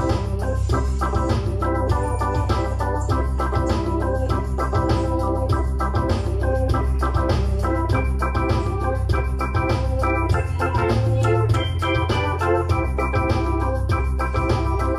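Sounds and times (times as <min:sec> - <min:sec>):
electronic keyboard gospel chords: 0:00.0 - 0:14.9
heavy keyboard bass line: 0:00.0 - 0:14.9.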